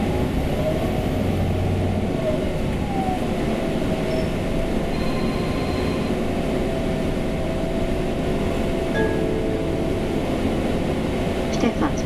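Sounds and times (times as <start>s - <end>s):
bus ride rumble: 0.0s - 12.0s.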